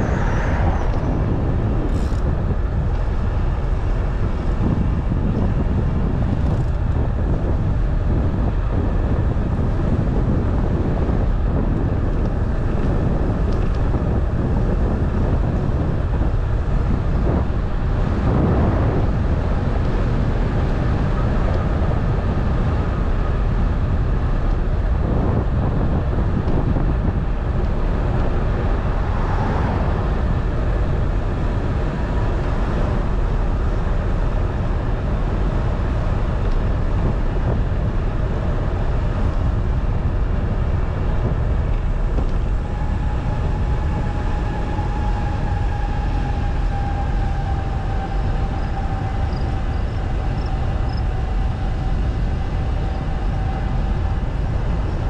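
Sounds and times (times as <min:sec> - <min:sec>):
vehicle road rumble: 0:00.0 - 0:55.0
wind buffeting microphone: 0:00.0 - 0:55.0.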